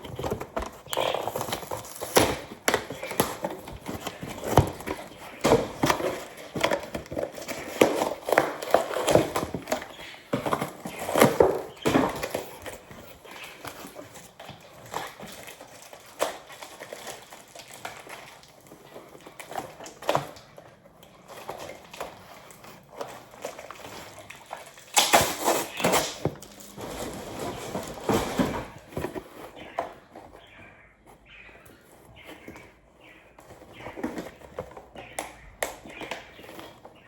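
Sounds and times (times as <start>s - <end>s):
cardboard tearing: 0.0s - 20.4s, 21.2s - 30.5s
packaging rustling and crinkling: 0.0s - 37.0s.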